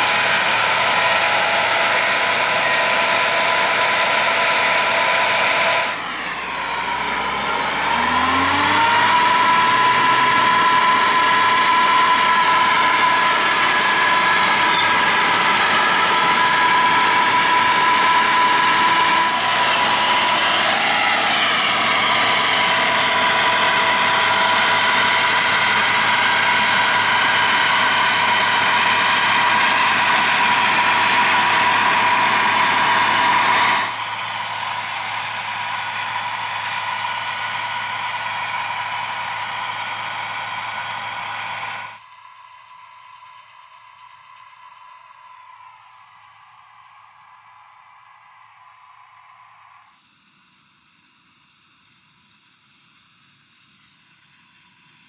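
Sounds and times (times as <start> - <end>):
combine harvester engine: 0.0 - 55.0
combine harvester mechanical whine: 0.0 - 55.0.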